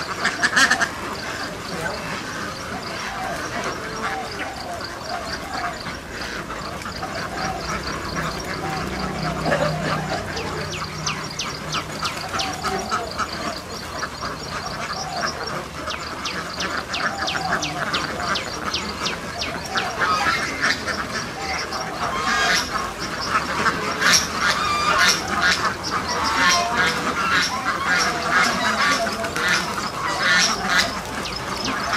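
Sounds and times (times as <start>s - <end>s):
ducks quacking: 0.0s - 31.9s.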